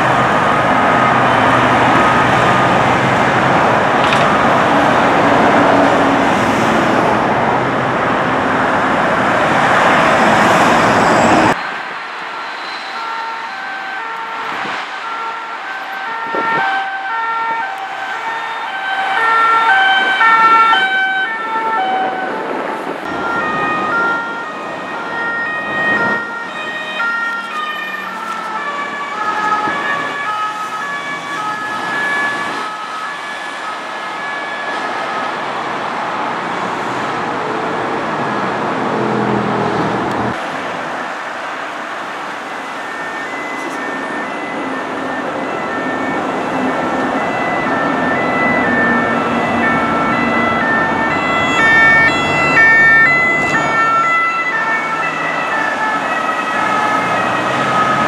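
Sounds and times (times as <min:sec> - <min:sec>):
heavy motorway traffic: 0:00.0 - 0:58.0
two-tone emergency sirens: 0:00.0 - 0:58.0.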